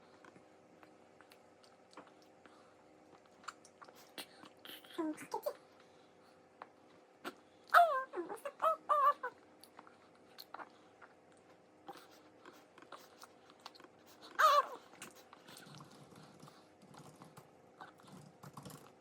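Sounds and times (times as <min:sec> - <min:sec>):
toddler chewing: 0:00.1 - 0:05.6, 0:06.6 - 0:19.0.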